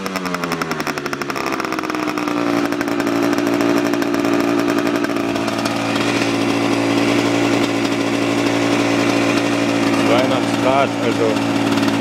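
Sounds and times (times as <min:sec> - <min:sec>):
two-stroke engine running: 0:00.0 - 0:12.0.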